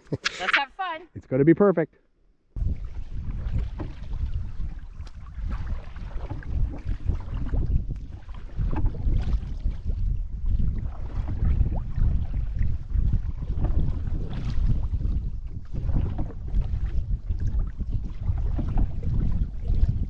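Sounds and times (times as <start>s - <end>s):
water splashing around canoe: 2.6s - 20.0s
wind rumbling on microphone: 2.6s - 20.0s.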